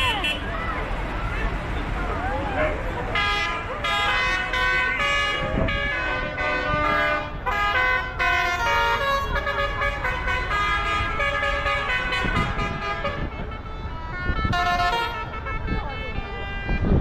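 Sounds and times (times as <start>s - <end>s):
vehicle horns tooting a tune: 0.0s - 0.7s, 2.6s - 17.0s
tractor engines rumbling: 0.0s - 17.0s.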